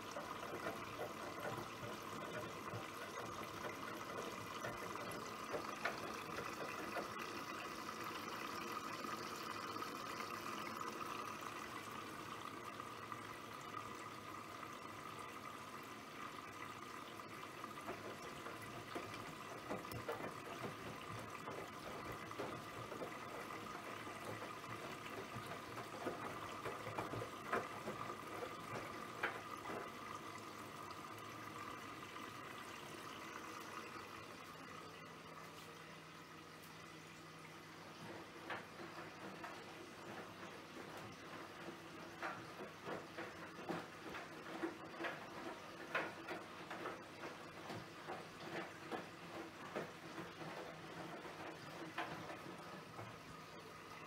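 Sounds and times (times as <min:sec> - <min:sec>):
washing machine water sloshing: 0:00.0 - 0:54.0.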